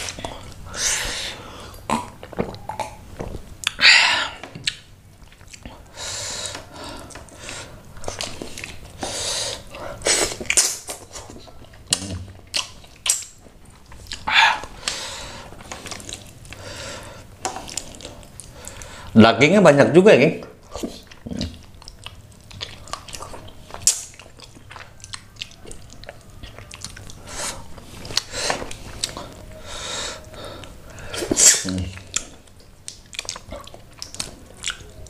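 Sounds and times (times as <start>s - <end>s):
wet chewing and sucking: 3.6s - 19.1s, 20.6s - 35.0s.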